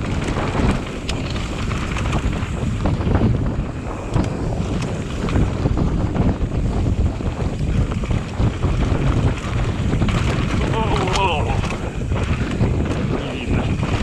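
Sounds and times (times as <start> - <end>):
bike rattling over bumps: 0.0 - 14.0
wind buffeting microphone: 0.0 - 14.0.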